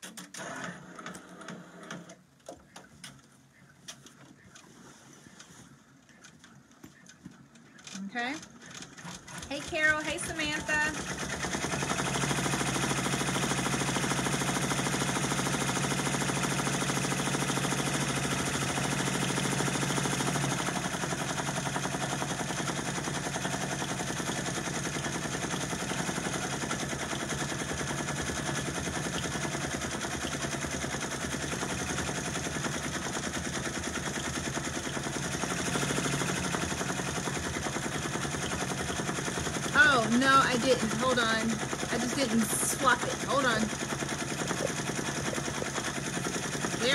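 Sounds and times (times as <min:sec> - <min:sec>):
embroidery machine stitching: 0:00.0 - 0:02.2, 0:07.7 - 0:46.9.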